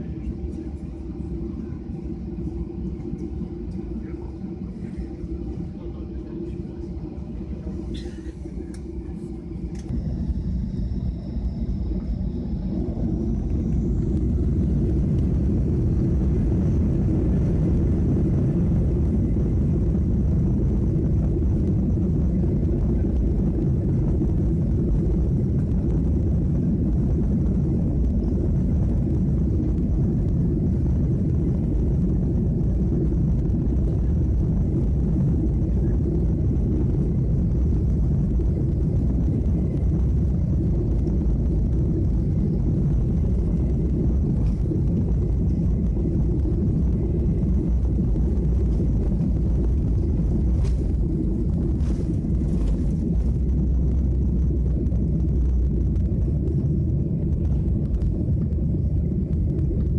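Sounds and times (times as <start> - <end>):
jet engines spooling up: 0.0 - 59.9.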